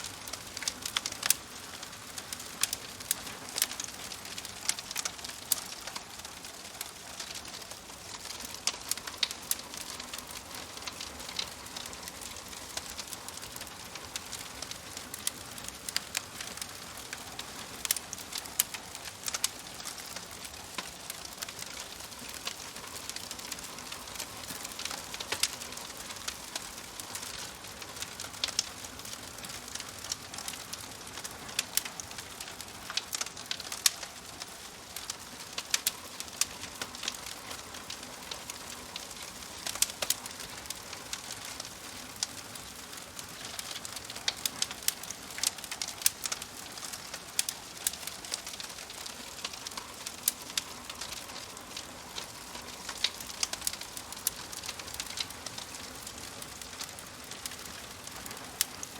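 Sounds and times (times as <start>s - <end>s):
fire crackling: 0.0s - 58.9s.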